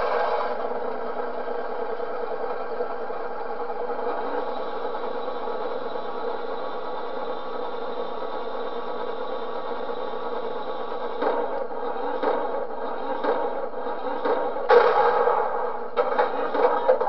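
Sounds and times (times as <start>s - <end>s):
electric motor and gears whirring: 0.0s - 17.0s.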